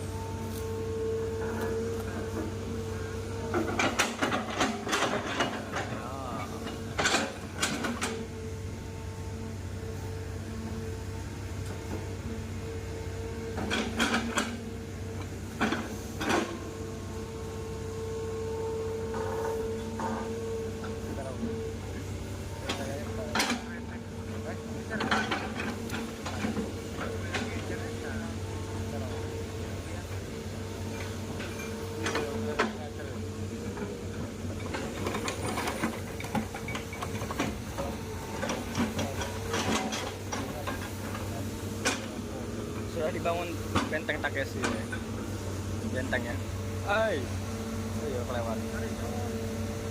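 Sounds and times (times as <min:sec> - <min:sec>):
excavator engine whining: 0:00.0 - 0:49.9.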